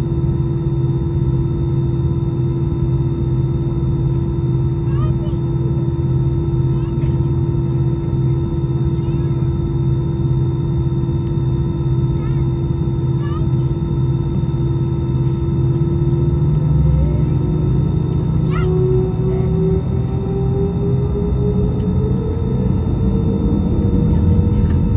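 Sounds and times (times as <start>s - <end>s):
jet engine drone in cabin: 0.0s - 24.9s
jet engine whining tones: 0.0s - 24.9s.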